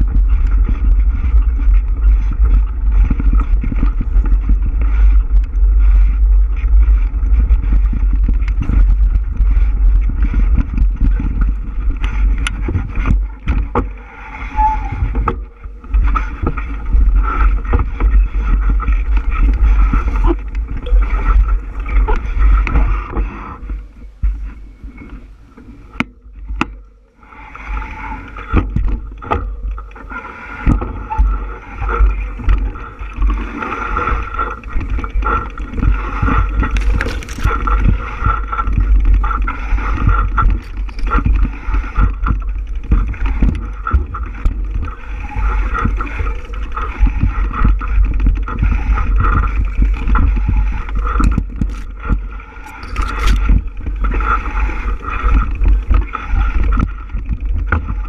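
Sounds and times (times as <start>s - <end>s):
bicycle tyres and drivetrain whirring: 0.0s - 58.0s
wind buffeting microphone: 0.0s - 58.0s.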